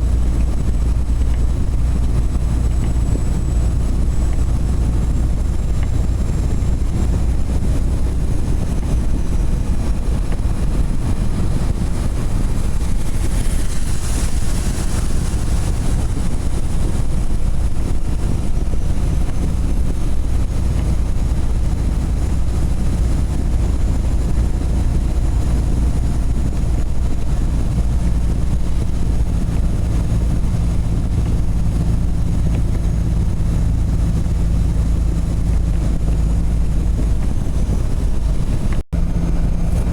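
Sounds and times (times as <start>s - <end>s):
road noise: 0.0s - 39.9s
steady engine hum: 0.0s - 39.9s
truck engine rumble: 0.0s - 39.9s.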